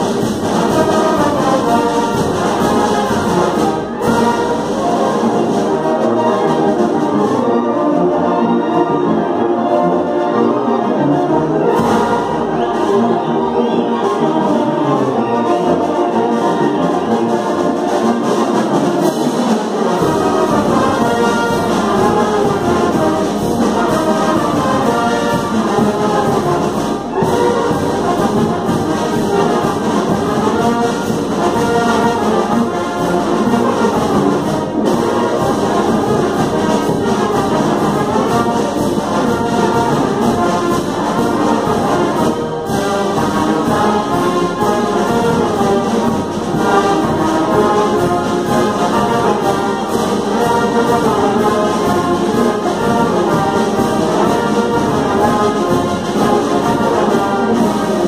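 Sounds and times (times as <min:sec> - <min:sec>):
wind band playing dance tune: 0:00.0 - 0:58.0.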